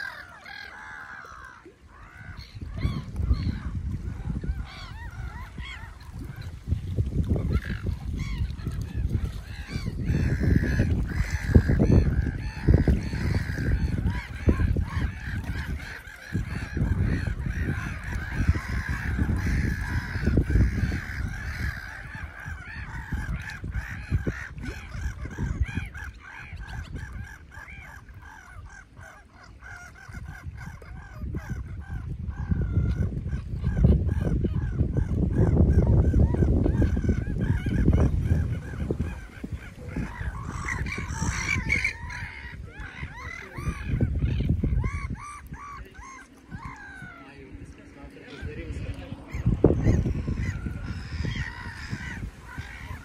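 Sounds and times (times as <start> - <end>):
waterbirds calling: 0.0 - 53.0.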